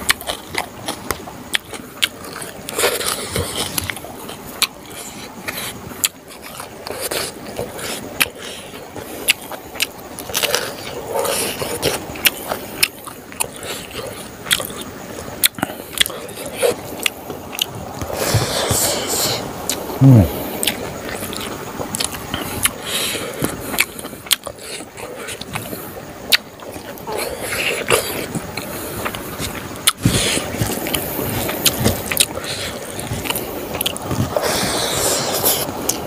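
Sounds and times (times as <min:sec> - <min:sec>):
man chewing with wet mouth clicks: 0:00.0 - 0:36.0.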